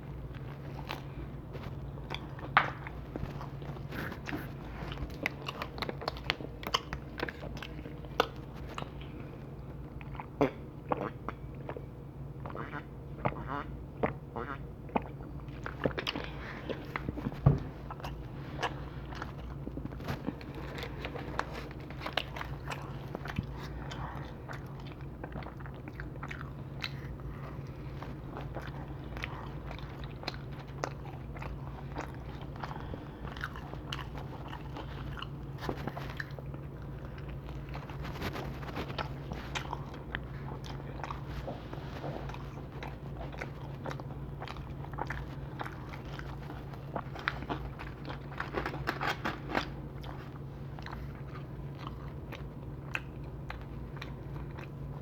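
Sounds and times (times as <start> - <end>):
chewing and biting pizza: 0.0 - 55.0
steady low hum: 0.0 - 55.0.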